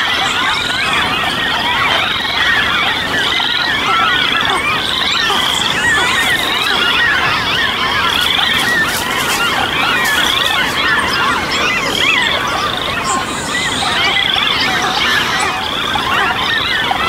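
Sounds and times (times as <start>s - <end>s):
birds chirping: 0.0s - 17.0s
frogs calling: 0.0s - 17.0s.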